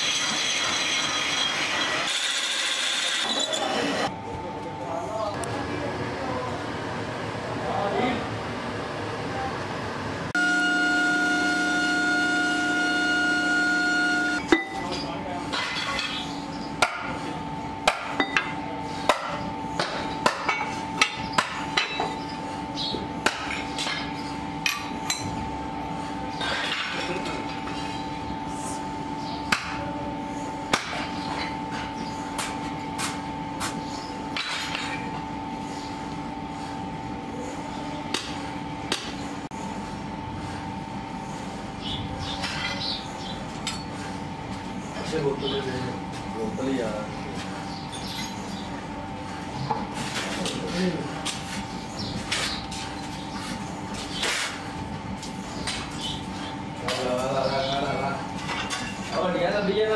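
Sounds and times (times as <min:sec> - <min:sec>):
machine hum with held tones: 0:00.0 - 0:15.3, 0:15.9 - 0:54.1.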